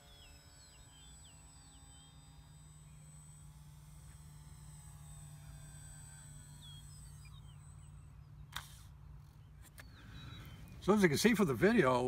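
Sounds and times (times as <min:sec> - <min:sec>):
birds chirping: 0:00.0 - 0:12.0
model plane motor whine: 0:00.0 - 0:12.0.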